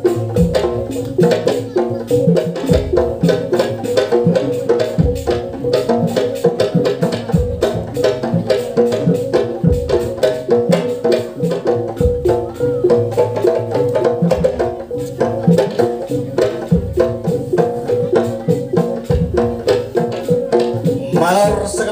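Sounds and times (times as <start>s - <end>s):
drums: 0.0s - 21.9s.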